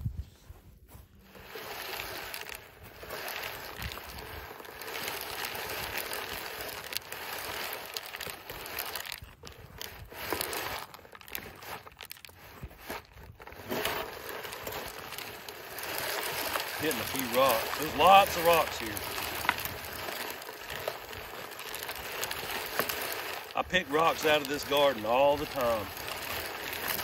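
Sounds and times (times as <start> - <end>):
seeder wheels crunching over stony soil: 0.0 - 27.0.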